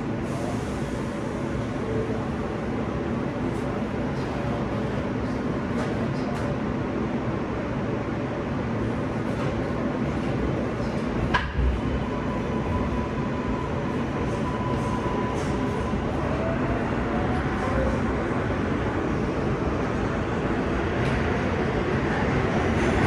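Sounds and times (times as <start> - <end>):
subway train rumble and hiss: 0.0 - 23.0.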